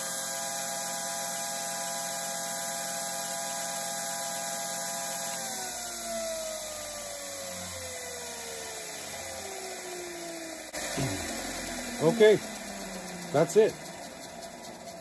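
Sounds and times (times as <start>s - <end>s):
bench grinder motor humming: 0.0s - 15.0s.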